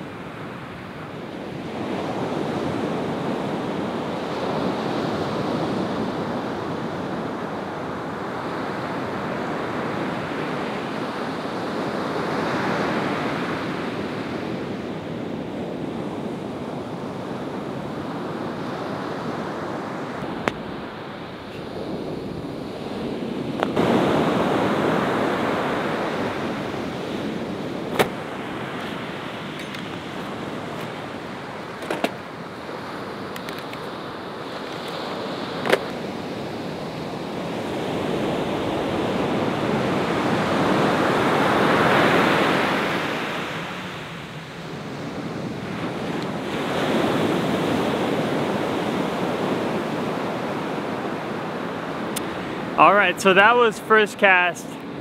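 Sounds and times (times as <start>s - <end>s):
ocean surf breaking: 0.0s - 55.0s.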